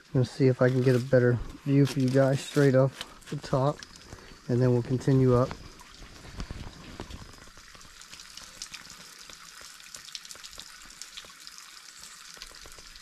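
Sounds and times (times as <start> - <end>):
water trickling over rock: 0.0 - 13.0.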